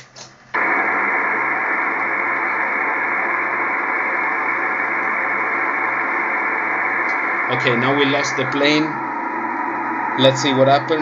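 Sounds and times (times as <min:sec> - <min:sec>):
radio band noise hiss: 0:00.6 - 0:11.0.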